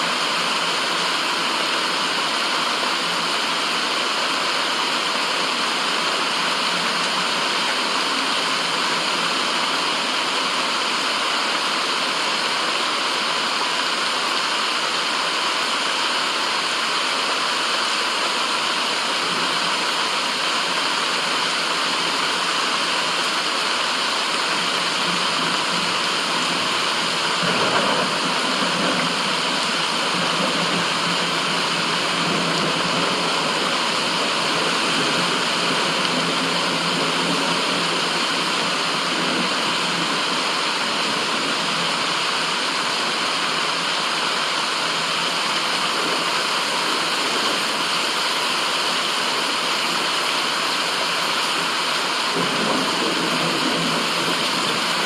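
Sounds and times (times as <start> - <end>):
white noise rushing: 0.0 - 55.0.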